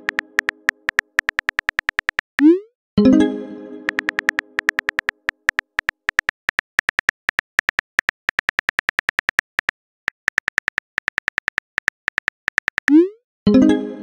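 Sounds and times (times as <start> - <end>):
phone keyboard key clicks: 0.0 - 2.4, 3.9 - 12.9.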